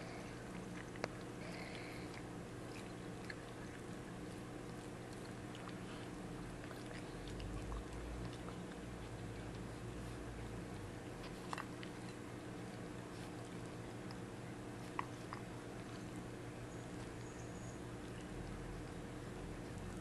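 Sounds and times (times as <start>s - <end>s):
cat licking and chewing: 0.0s - 20.0s
steady low hum: 0.0s - 20.0s.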